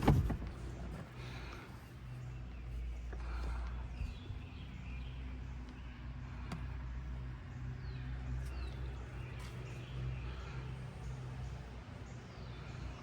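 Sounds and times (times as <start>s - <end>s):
small birds chirping: 0.5s - 13.0s.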